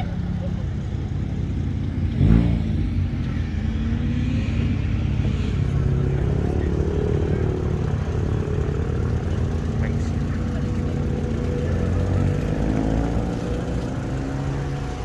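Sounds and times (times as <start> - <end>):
car engine running: 0.0 - 15.0
engine revving: 0.0 - 15.0.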